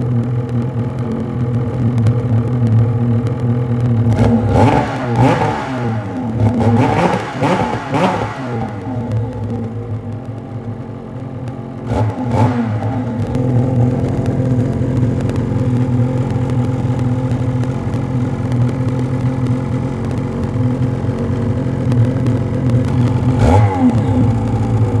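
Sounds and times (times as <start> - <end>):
engine throttle blip: 0.0 - 25.0
snowmobile engine idling: 0.0 - 25.0.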